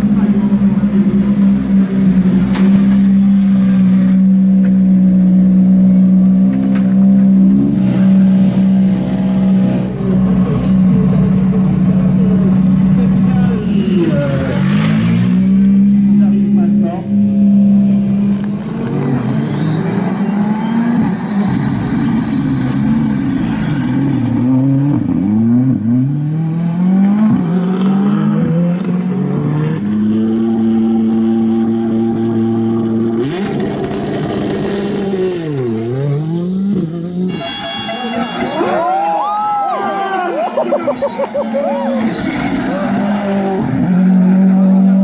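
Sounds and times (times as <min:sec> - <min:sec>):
rally car engine revving: 0:00.0 - 0:39.3, 0:40.4 - 0:45.0.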